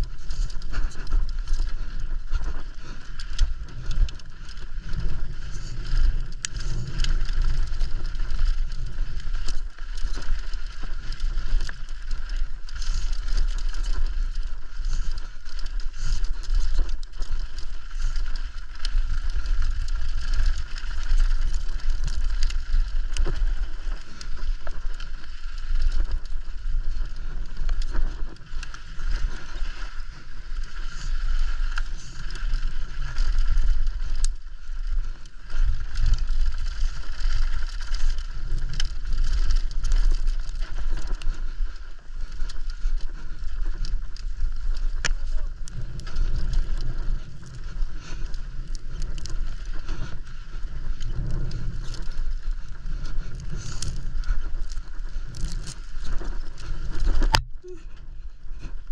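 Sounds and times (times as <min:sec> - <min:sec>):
bike clicks and rattles: 0:00.0 - 0:58.9
wind rush on microphone: 0:00.0 - 0:58.9.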